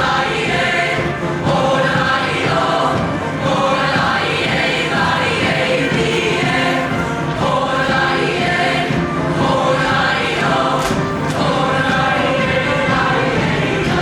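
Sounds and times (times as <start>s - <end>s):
choir singing: 0.0s - 14.0s
music: 0.0s - 14.0s.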